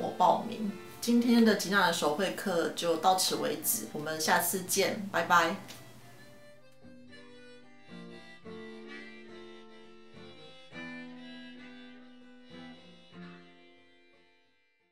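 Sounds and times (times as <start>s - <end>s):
soft slow background music: 0.0s - 14.7s.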